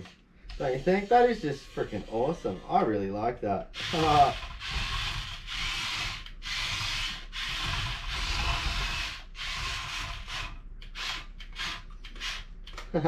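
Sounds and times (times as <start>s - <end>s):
remote-control toy truck motor: 0.5s - 2.9s, 3.8s - 12.8s.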